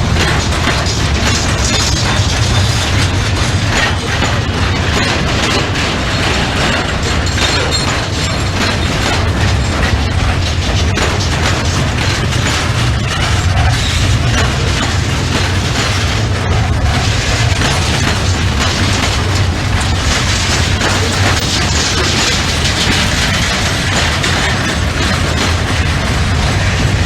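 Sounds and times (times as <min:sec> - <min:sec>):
freight train rumbling: 0:00.0 - 0:27.0
wheels clattering and clanking: 0:00.0 - 0:27.0.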